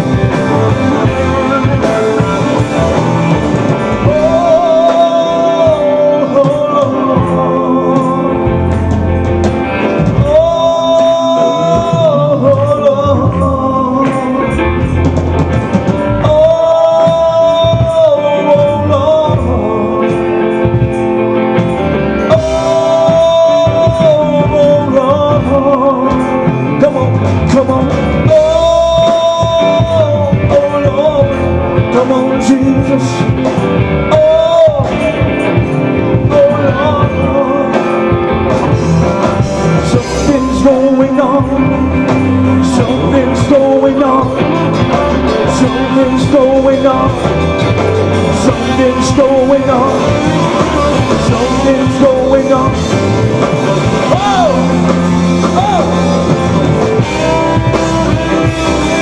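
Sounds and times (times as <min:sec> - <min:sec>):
bending guitar melody line: 0:00.0 - 0:59.0
rock band playing: 0:00.0 - 0:59.0.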